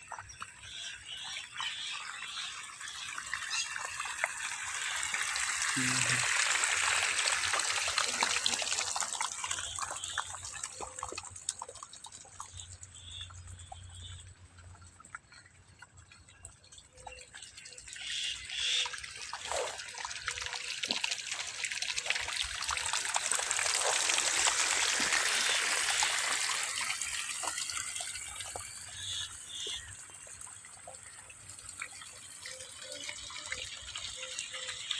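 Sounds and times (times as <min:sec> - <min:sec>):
running water trickling and splashing: 0:00.0 - 0:34.9.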